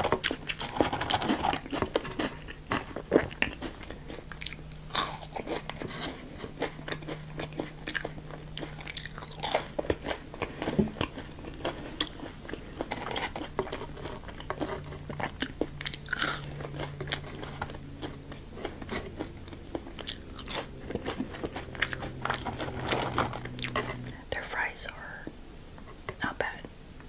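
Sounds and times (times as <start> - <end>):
crunchy bites and wet chewing: 0.0 - 24.1
faint low hum: 0.0 - 27.0.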